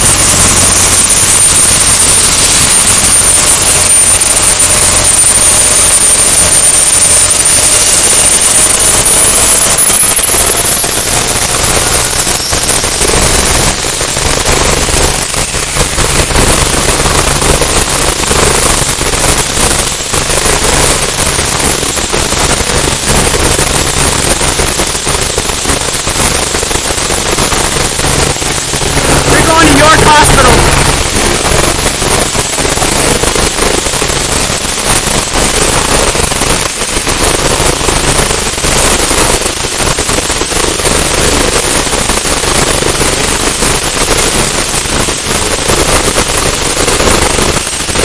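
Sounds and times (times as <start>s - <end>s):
helicopter turbine whine: 0.0s - 48.0s
low rotor rumble: 0.0s - 48.0s.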